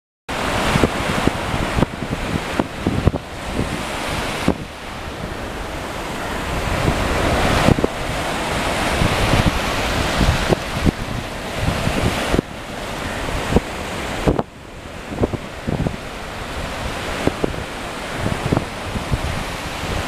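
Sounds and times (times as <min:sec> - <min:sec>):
small waves washing on beach: 0:00.3 - 0:20.0
wind buffeting microphone: 0:00.3 - 0:20.0.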